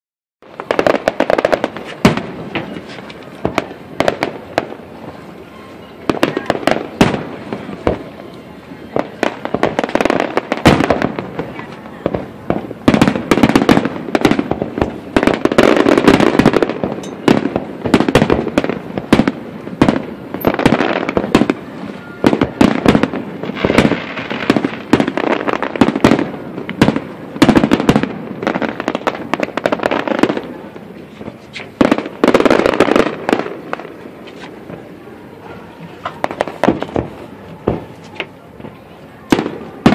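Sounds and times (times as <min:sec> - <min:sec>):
fireworks launching and bursting: 0:00.4 - 0:39.9.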